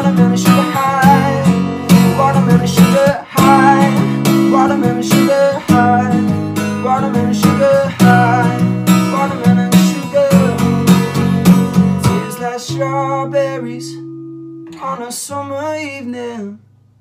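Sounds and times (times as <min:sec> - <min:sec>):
acoustic guitar strumming: 0:00.0 - 0:16.8.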